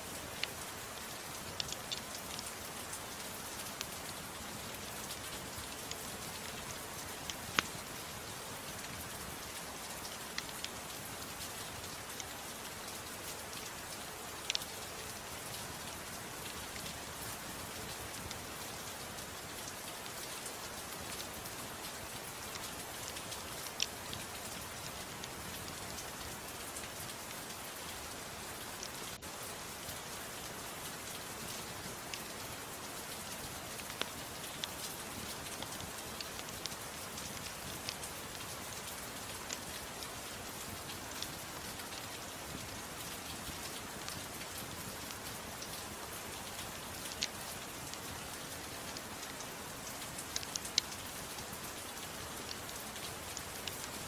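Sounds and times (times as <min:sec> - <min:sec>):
soft rain patter: 0:00.0 - 0:54.0.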